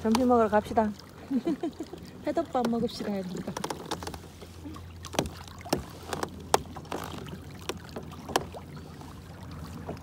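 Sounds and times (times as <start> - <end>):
water slapping against hull: 0.0 - 10.0.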